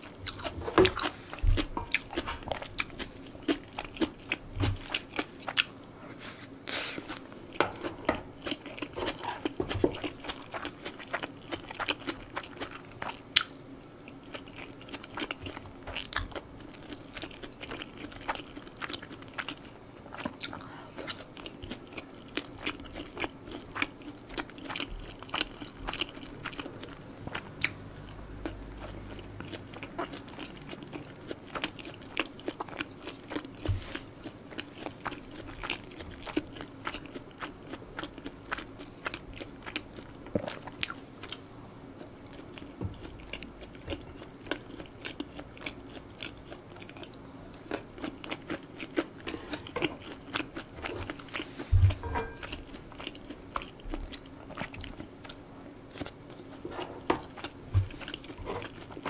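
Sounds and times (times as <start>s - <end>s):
chewing and biting food: 0.0s - 5.8s, 7.0s - 59.0s
faint steady hum: 0.0s - 59.0s.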